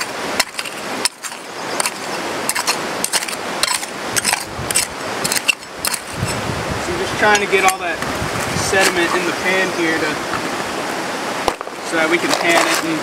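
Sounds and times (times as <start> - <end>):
hand pick scraping gravel and stones: 0.0 - 9.7, 11.4 - 13.0.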